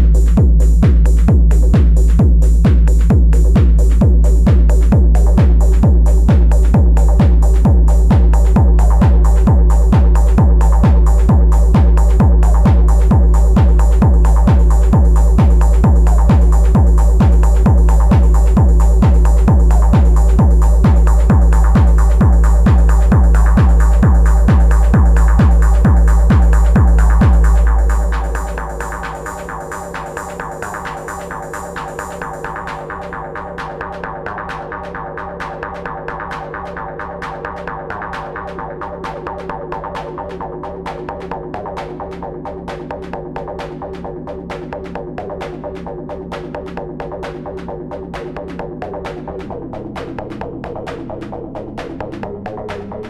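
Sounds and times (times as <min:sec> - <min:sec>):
fast hi-hat ticks: 0:00.0 - 0:52.0
pulsing synth pattern: 0:00.0 - 0:52.3
bass: 0:00.0 - 0:53.0
heavy kick drum: 0:00.0 - 0:53.0.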